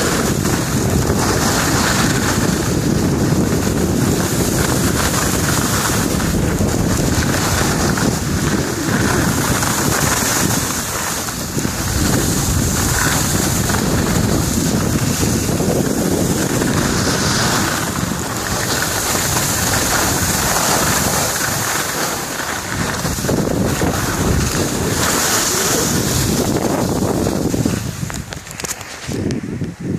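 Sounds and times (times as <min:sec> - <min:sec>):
skis hissing over snow: 0:00.0 - 0:29.4
wind rushing on microphone: 0:00.0 - 0:29.9.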